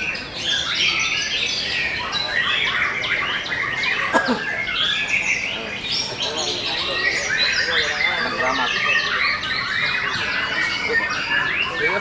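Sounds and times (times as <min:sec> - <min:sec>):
canaries singing trills: 0:00.0 - 0:12.0.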